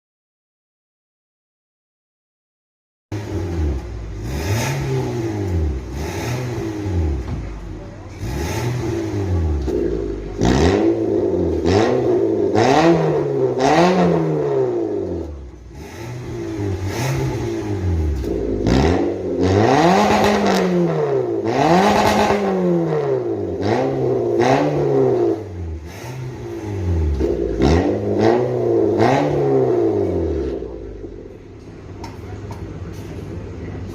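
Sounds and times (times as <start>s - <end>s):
car engine revving: 3.1s - 32.2s.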